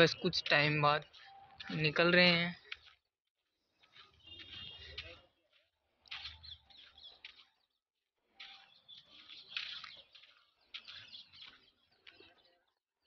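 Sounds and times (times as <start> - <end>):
small birds chirping faintly: 0.0 - 13.0.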